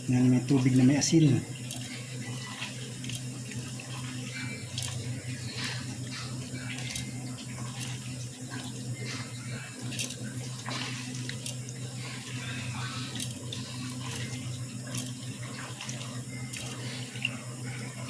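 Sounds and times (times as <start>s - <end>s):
hands kneading in water: 0.0s - 18.0s
steady low hum: 0.0s - 18.0s
water splashing and sloshing: 1.4s - 18.0s.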